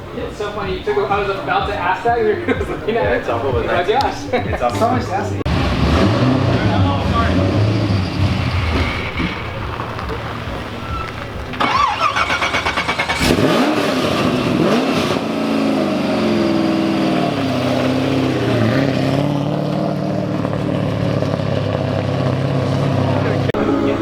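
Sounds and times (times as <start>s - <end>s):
car engine cranking: 0.0s - 24.0s
car engine revving and idling: 0.0s - 24.0s.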